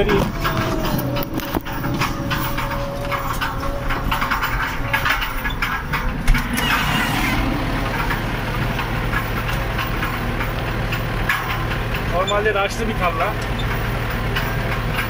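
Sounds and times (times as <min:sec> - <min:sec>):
light rattling: 0:00.0 - 0:15.0
tractor diesel engine running: 0:00.0 - 0:15.0.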